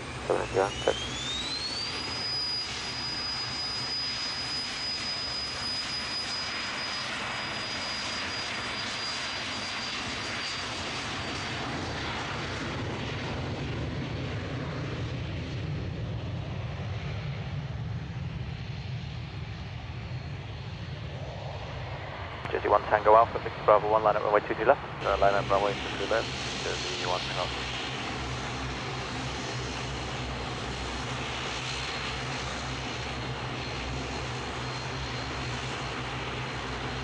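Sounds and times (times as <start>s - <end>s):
jet engines at takeoff: 0.0s - 37.0s.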